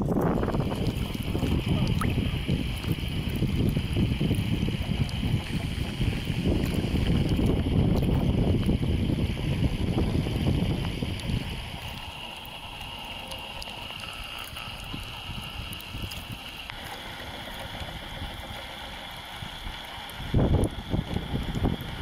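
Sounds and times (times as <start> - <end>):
wind buffeting microphone: 0.0 - 16.6, 19.4 - 22.0
steady hiss: 1.0 - 22.0.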